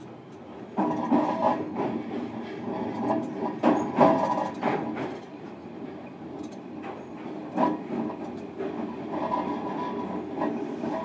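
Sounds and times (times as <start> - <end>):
train rolling noise: 0.0 - 11.0.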